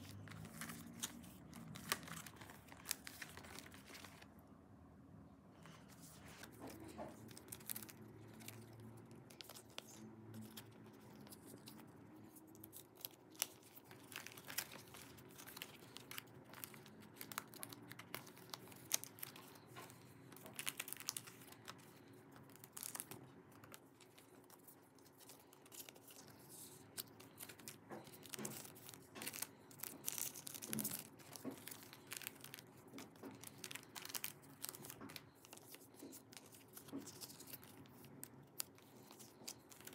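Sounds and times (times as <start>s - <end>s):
plastic crinkling and rustling: 0.0s - 4.4s, 5.6s - 39.9s.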